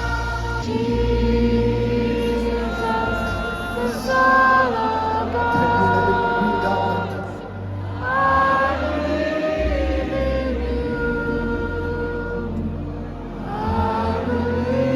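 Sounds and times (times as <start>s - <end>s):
slow worship music with singing: 0.0s - 14.9s.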